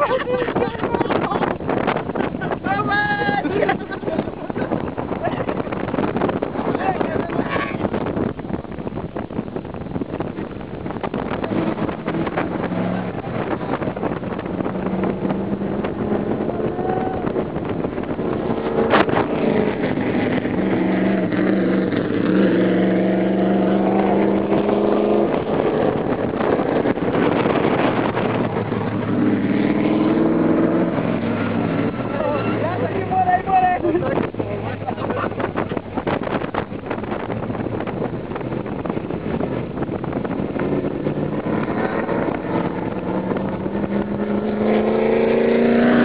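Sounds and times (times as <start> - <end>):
vehicle engines running: 0.0 - 46.0
wind and road noise: 0.0 - 46.0.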